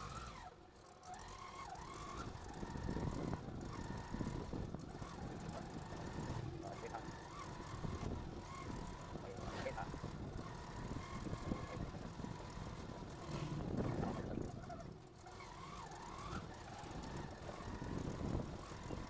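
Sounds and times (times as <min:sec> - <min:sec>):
street traffic: 0:00.0 - 0:19.0
vehicle running: 0:00.0 - 0:19.0.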